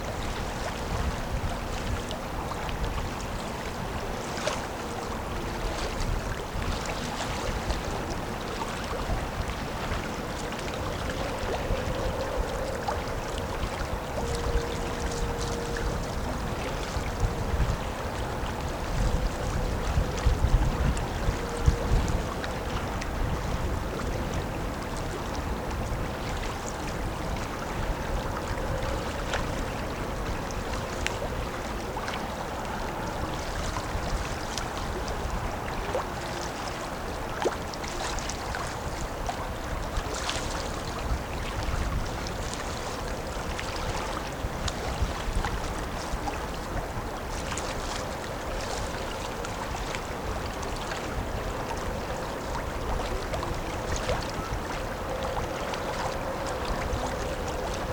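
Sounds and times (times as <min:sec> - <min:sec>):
ship engine rumble: 0:00.0 - 0:57.9.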